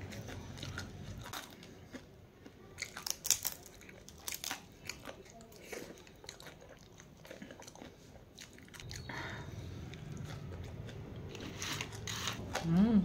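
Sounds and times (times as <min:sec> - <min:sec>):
low steady hum: 0:00.0 - 0:13.0
person chewing crunchy food: 0:00.0 - 0:13.0.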